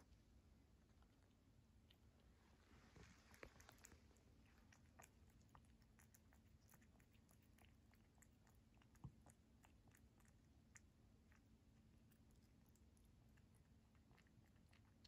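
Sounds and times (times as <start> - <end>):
kitten chewing cat food: 0.0 - 15.0.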